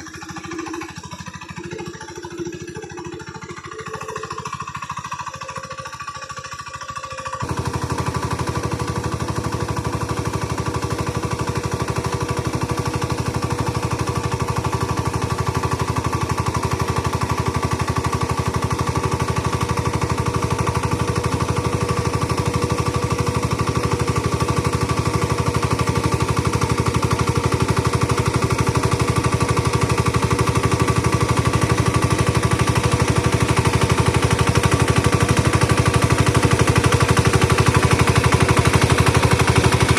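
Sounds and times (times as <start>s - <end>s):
engine chugging: 0.0s - 39.9s.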